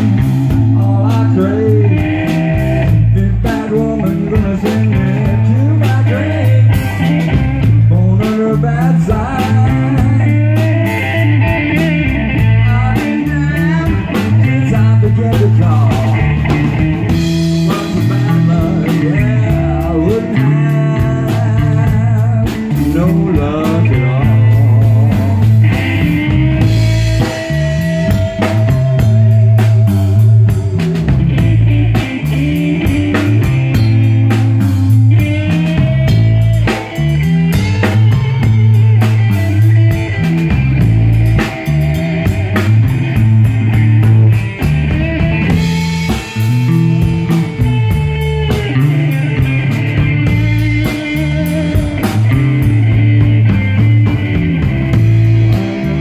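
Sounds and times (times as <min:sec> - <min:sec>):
bass guitar: 0:00.0 - 0:56.0
drum kit: 0:00.0 - 0:56.0
electric guitar lead lines: 0:00.0 - 0:56.0.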